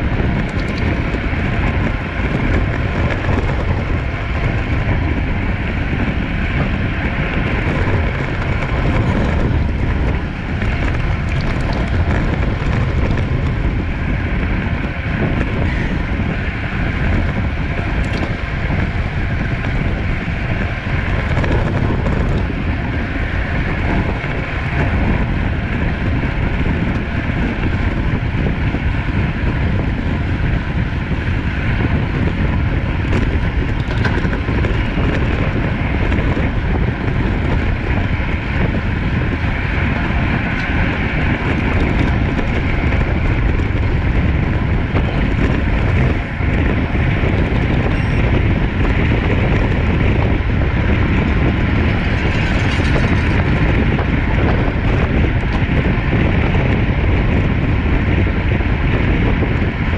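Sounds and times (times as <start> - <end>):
road and tyre noise: 0.0 - 59.9
wind rushing over microphone: 0.0 - 59.9.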